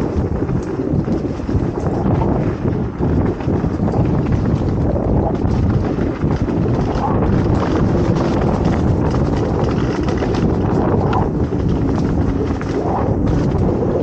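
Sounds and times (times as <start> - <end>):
bike clicks over bumps: 0.0 - 14.0
mountain bike rattling: 0.0 - 14.0
tyres rolling over dirt: 0.0 - 14.0
wind buffeting microphone: 0.0 - 14.0.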